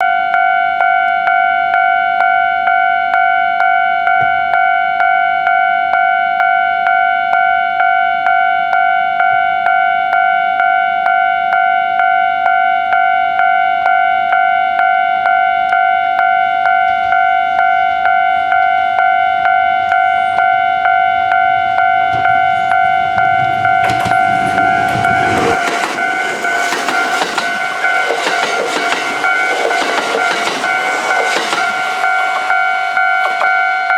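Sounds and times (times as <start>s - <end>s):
level crossing bell ringing: 0.0s - 33.9s
train passing over crossing: 0.0s - 33.9s.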